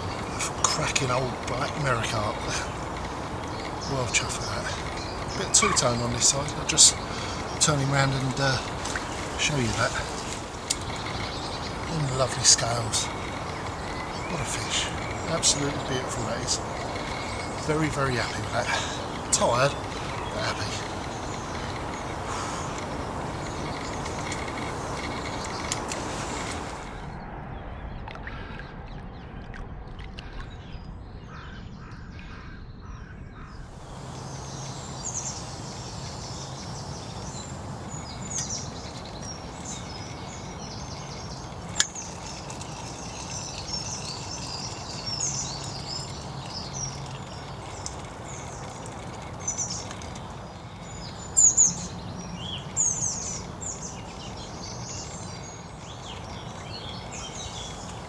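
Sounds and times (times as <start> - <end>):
birds singing and chirping: 0.0 - 27.1, 30.2 - 58.0
rushing outdoor background: 0.0 - 31.0, 33.5 - 58.0.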